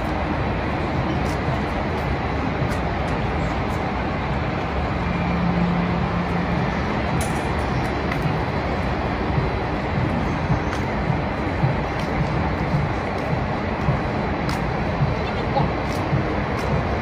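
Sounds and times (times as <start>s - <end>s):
city background rumble and hiss: 0.0s - 17.0s.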